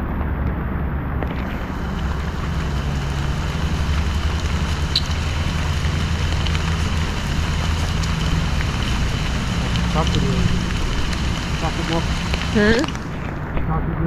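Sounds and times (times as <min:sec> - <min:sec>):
low vehicle engine hum: 0:00.0 - 0:14.0
rain hiss: 0:01.2 - 0:14.0.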